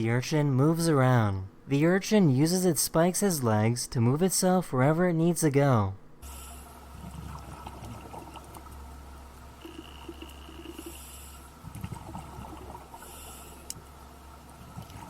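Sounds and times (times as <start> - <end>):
faint low hum: 0.0 - 15.0
soft watery background noise: 0.0 - 15.0.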